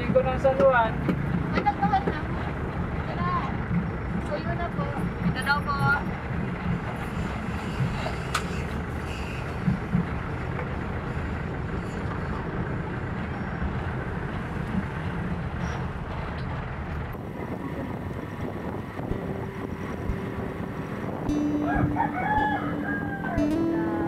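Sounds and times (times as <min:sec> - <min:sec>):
road rumble: 0:00.0 - 0:24.0
vehicle engine running: 0:00.0 - 0:24.0.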